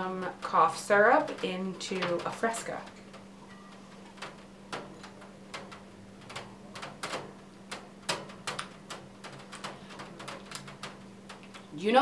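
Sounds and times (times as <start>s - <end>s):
raindrops dripping: 0.0s - 12.0s.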